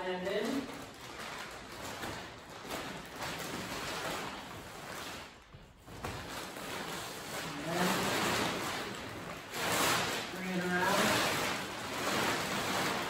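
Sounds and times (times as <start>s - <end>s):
plastic tarp rustling: 0.0s - 13.0s.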